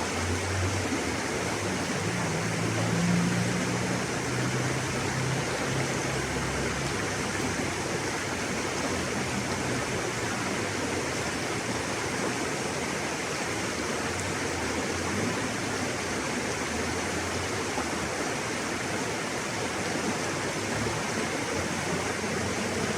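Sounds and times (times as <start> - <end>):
river water rushing: 0.0 - 22.9.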